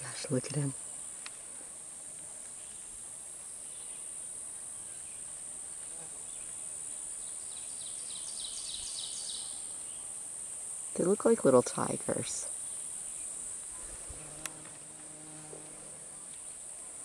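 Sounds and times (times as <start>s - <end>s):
field insects droning: 0.0s - 17.0s
rapid high insect chirps: 0.0s - 17.0s.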